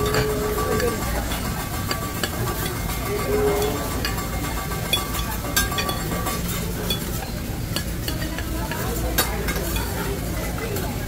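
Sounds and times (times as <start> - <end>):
cooking utensils clicking: 0.0 - 11.0.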